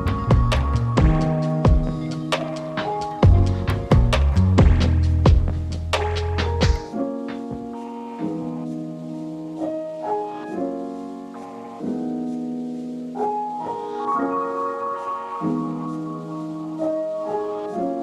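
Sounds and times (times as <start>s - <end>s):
slow calm piano melody: 0.0s - 18.0s.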